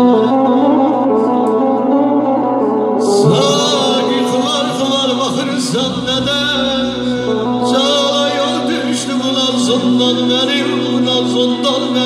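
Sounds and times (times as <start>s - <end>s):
synthesizer melody: 0.0s - 12.0s.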